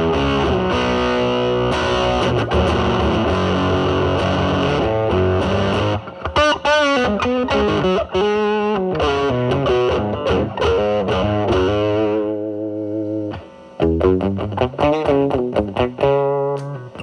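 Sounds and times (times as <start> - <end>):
fuzz electric guitar playing: 0.0 - 17.0.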